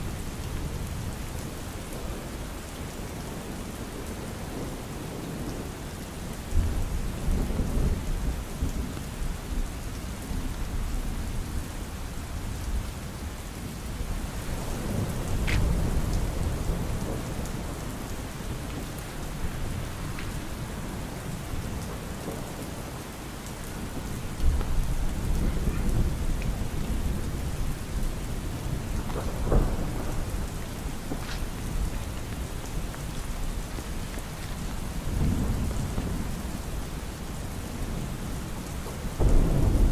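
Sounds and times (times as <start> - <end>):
rain falling on an umbrella: 0.0 - 39.9
low rumbles of thunder: 6.4 - 13.4, 14.0 - 23.1, 23.7 - 39.9.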